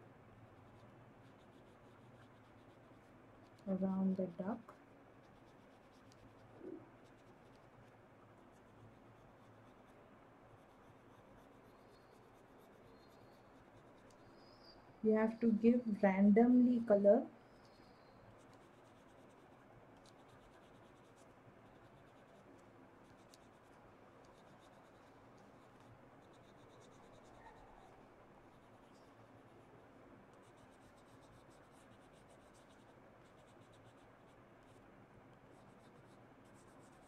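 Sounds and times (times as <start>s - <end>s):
oil pastel scratching on paper: 0.6s - 14.5s, 17.7s - 37.0s.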